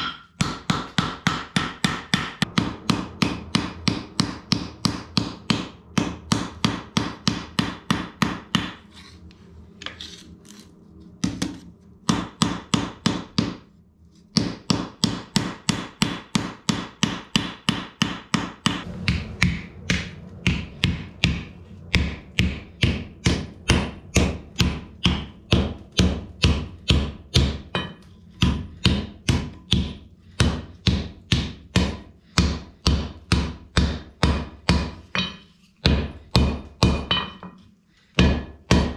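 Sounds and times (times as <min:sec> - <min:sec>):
hammer ringing on iron bar: 0:00.0 - 0:08.7, 0:14.7 - 0:37.6
deeper hammer blows on swage block: 0:00.0 - 0:08.8, 0:14.3 - 0:37.2.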